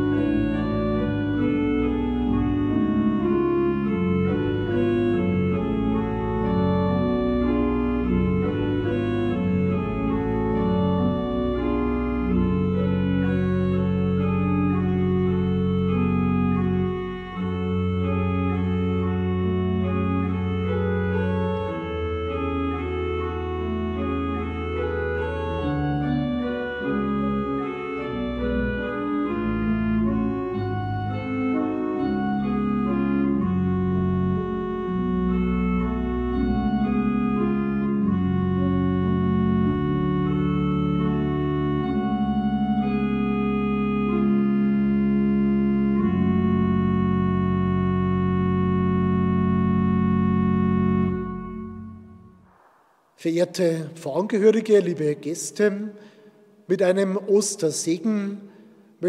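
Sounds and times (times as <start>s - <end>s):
organ pedal bass notes: 0.0s - 55.9s
pipe organ chords: 0.0s - 59.0s.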